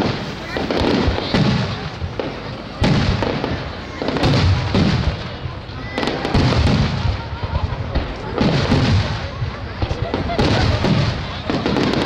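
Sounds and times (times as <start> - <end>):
firework booms: 0.0 - 12.0
firework crackling: 0.0 - 12.0.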